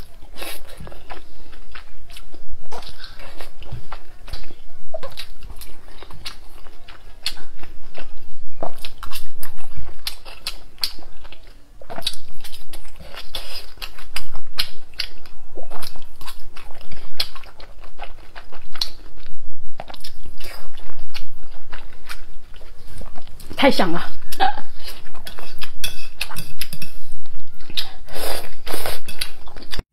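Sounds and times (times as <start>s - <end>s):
close chewing and biting: 0.0s - 29.8s.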